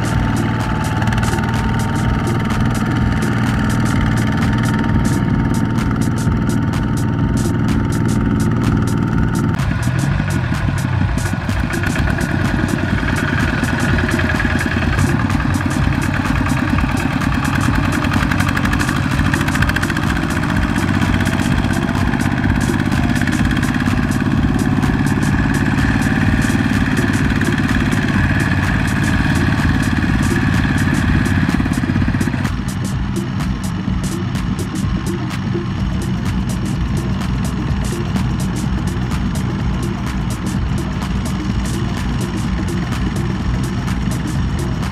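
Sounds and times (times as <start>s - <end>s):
diesel tractor engine running: 0.0s - 44.9s.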